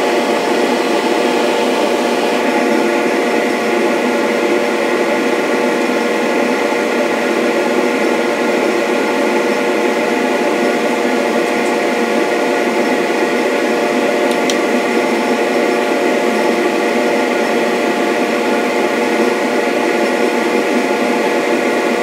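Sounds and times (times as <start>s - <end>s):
electric motor humming: 0.0s - 22.0s.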